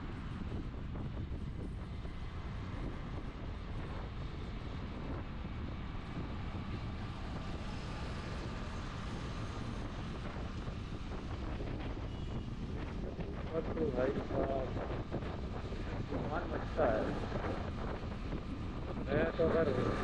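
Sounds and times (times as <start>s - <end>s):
moving vehicle running noise: 0.0s - 20.0s
wind buffeting microphone: 0.0s - 20.0s.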